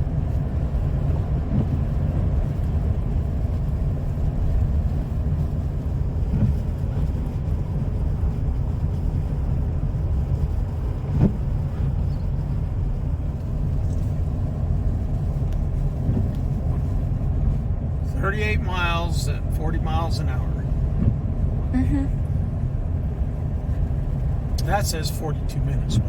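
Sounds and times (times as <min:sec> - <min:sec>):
car tyres and engine rumble: 0:00.0 - 0:26.0.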